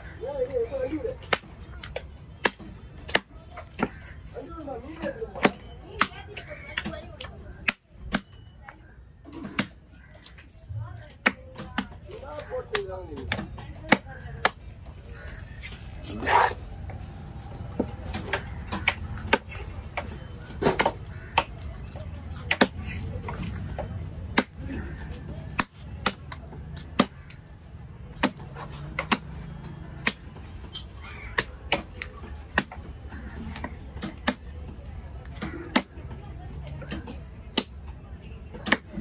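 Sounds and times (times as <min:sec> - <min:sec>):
market hubbub: 0:00.0 - 0:39.0.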